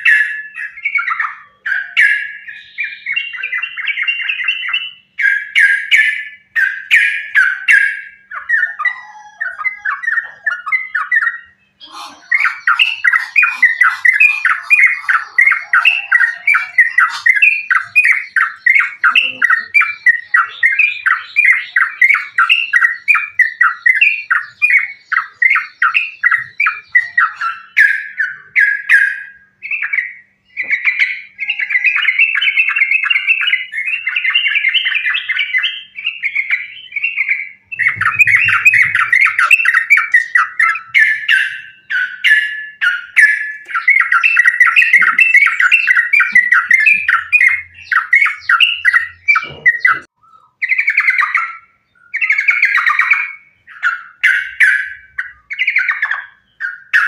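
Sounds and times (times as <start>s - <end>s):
bulbul chattering song: 0.0s - 57.0s.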